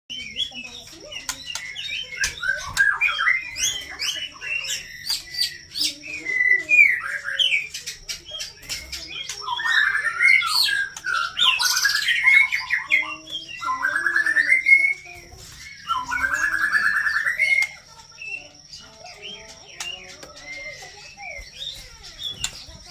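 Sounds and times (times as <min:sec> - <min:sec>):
songbird singing whistles and trills: 0:00.1 - 0:22.9.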